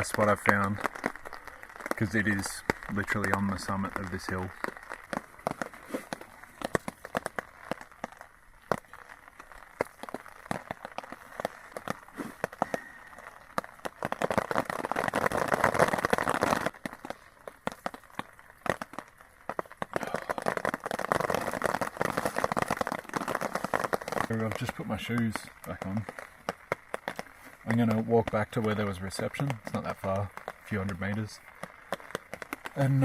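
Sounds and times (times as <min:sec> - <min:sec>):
rain tapping on a tarp: 0:00.0 - 0:33.0
tarp rustling and crinkling: 0:00.0 - 0:33.0.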